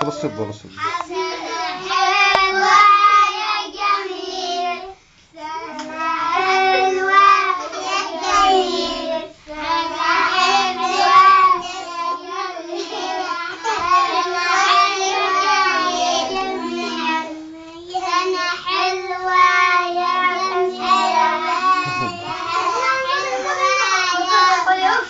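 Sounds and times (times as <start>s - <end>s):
children singing in chorus: 0.8s - 25.0s.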